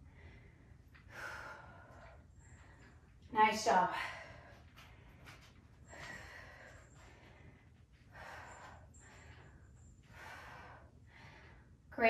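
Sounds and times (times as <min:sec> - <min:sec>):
woman breathing hard: 0:00.0 - 0:03.2, 0:03.9 - 0:11.9.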